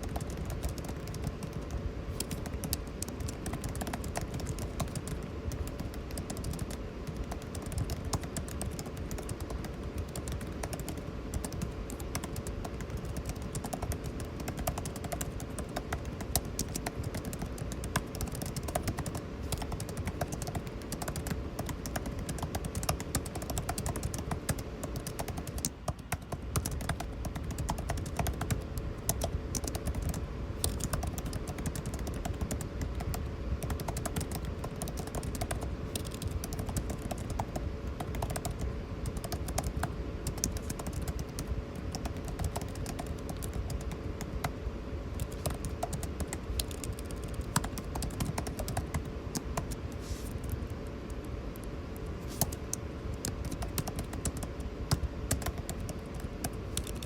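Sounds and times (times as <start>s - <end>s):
air conditioning hum: 0.0s - 57.0s
computer keyboard typing: 0.0s - 57.0s.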